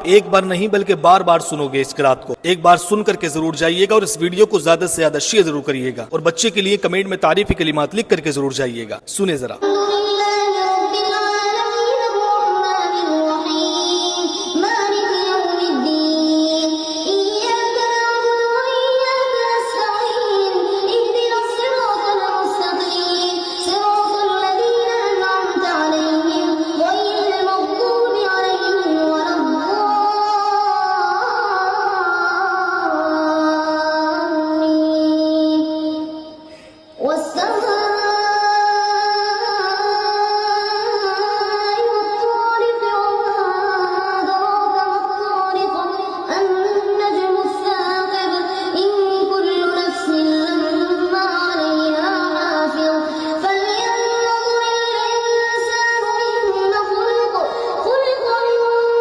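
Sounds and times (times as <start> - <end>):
child chanting recitation: 0.0 - 59.0.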